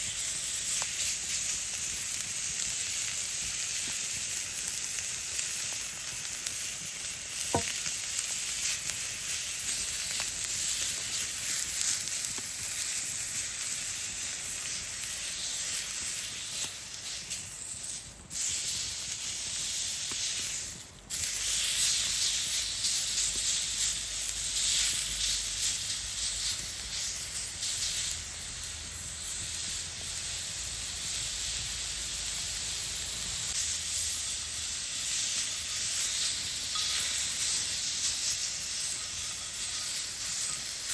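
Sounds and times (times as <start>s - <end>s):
meat sizzling over campfire: 0.0s - 40.9s.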